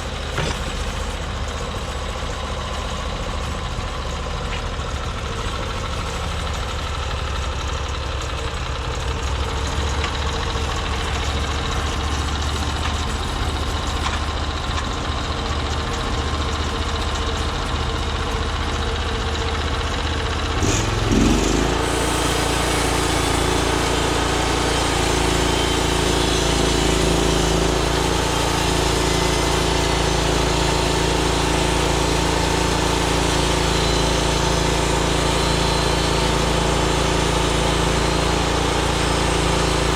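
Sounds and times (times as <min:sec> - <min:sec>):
small gasoline engine idling: 0:00.0 - 0:39.9.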